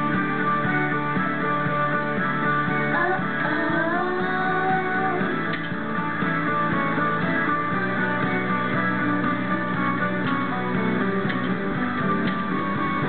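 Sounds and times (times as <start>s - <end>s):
song with guitar: 0.0s - 13.0s.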